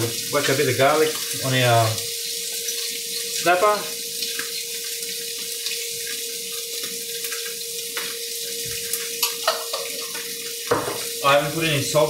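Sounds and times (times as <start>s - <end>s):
fish frying in a pan: 0.0s - 12.0s.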